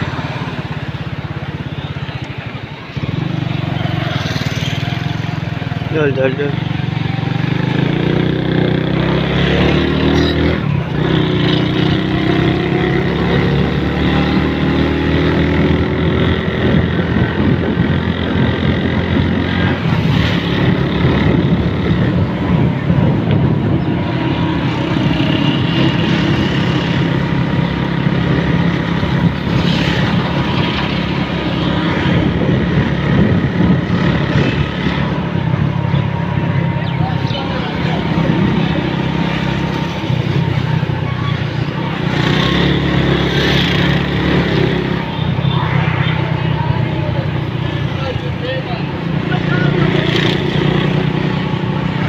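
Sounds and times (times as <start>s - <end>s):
road and wind noise: 0.0s - 52.0s
vehicle engine hum: 0.0s - 52.0s.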